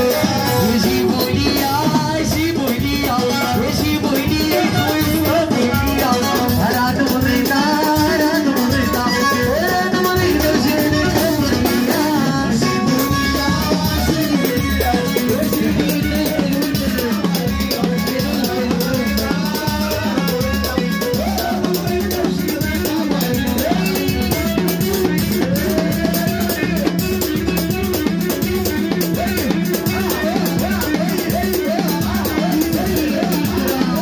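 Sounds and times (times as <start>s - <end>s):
drum and hand percussion beat: 0.0s - 34.0s
sliding melody line: 0.0s - 34.0s.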